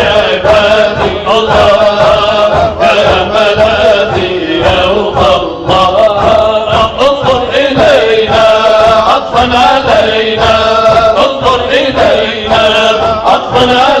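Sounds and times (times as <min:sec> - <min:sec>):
men chanting religious song: 0:00.0 - 0:14.0
steady beat: 0:00.0 - 0:14.0.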